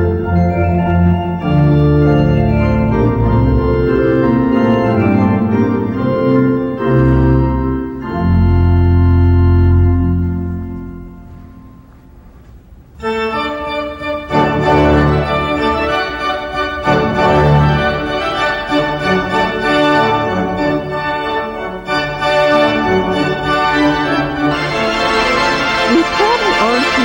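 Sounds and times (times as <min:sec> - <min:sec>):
organ music: 0:00.0 - 0:27.0.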